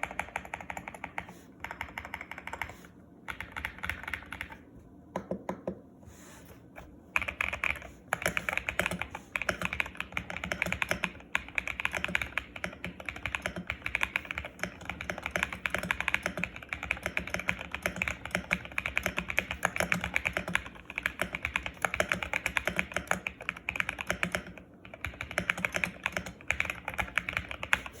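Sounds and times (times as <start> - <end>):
mechanical keyboard typing: 0.0 - 4.6, 7.2 - 28.0.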